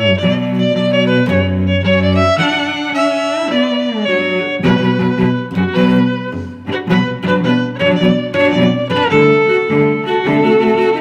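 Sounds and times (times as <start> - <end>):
bowed strings with sliding notes: 0.0 - 11.0.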